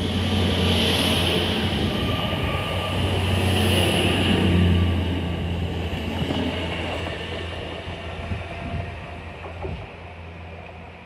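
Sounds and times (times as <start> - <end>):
diesel train pulling away: 0.0 - 11.0
rail noise: 0.0 - 11.0.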